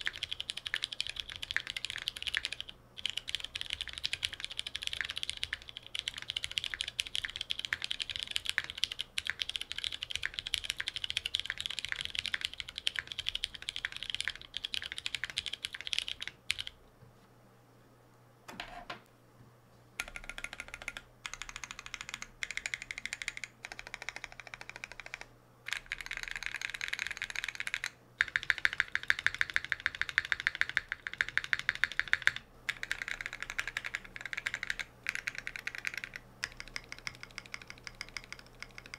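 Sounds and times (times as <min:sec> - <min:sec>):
mechanical keyboard typing: 0:00.0 - 0:16.8, 0:20.0 - 0:38.9.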